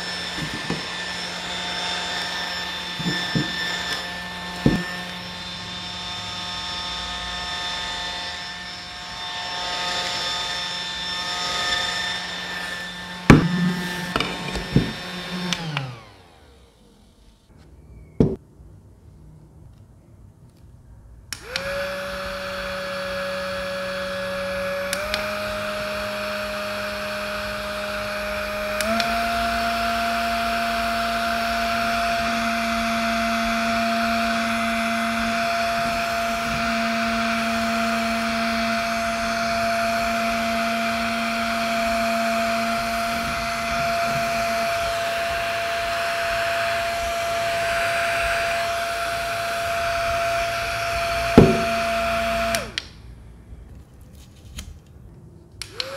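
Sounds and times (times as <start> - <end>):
fan motor whine and air rush: 0.0 - 16.8, 21.3 - 53.0.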